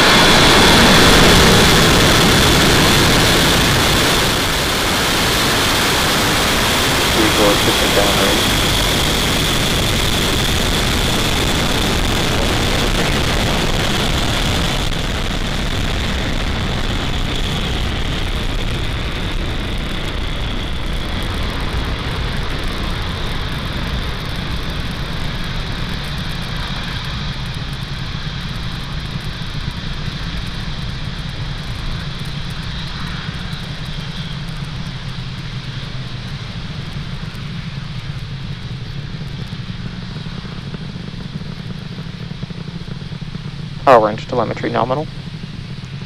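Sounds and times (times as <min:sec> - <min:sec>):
rocket engines rumbling: 0:00.0 - 0:46.0.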